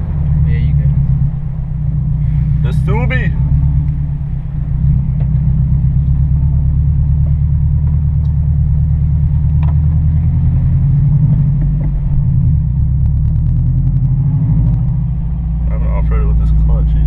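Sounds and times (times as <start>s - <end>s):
car engine rumble inside cabin: 0.0s - 17.0s.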